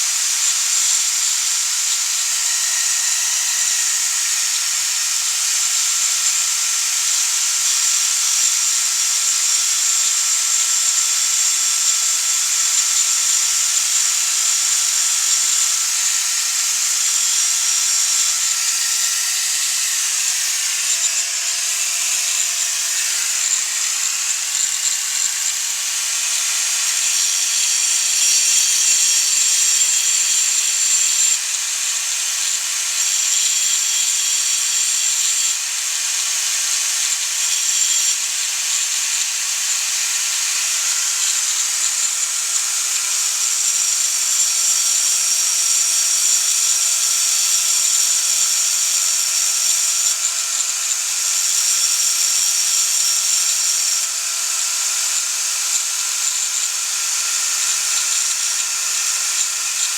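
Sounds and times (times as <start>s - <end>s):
power tool whirring: 0.0s - 59.9s.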